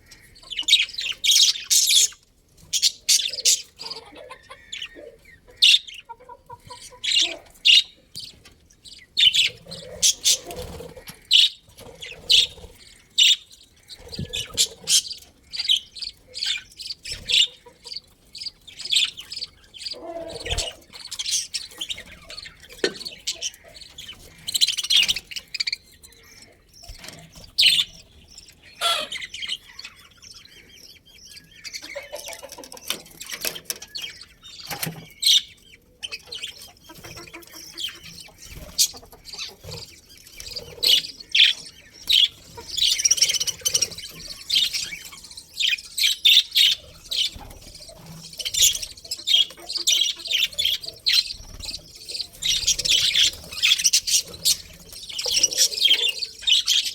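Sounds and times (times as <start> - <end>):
budgerigars chirping: 0.0 - 56.9.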